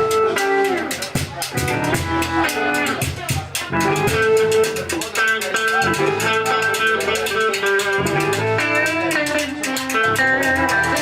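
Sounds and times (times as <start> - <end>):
guitar: 0.0 - 11.0
steady drum beat: 0.0 - 11.0.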